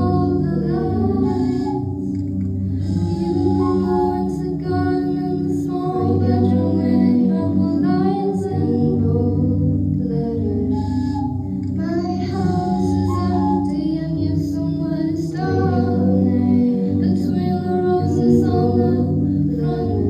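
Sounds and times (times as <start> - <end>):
person singing: 0.0 - 2.2, 2.8 - 20.0
sustained low notes: 0.0 - 20.0.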